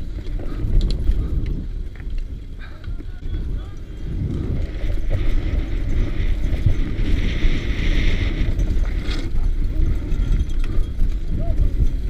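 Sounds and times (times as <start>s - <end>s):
mountain bike rattling over rocks: 0.0s - 12.0s
wind buffeting microphone: 0.0s - 12.0s.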